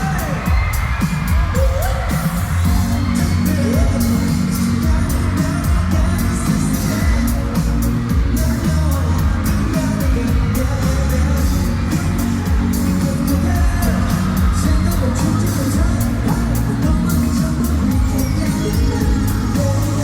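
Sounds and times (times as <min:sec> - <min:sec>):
pop song over sound system: 0:00.0 - 0:20.0.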